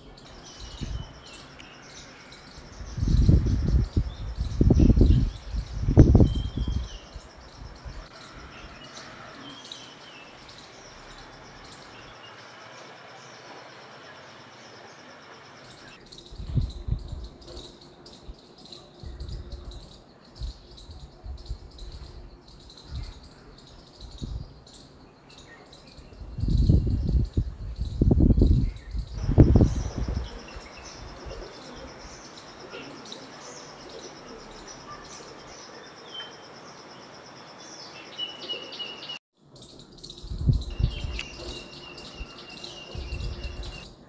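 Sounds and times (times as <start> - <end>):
crickets chirping: 0.0 - 44.0
high insect trill: 0.0 - 44.0.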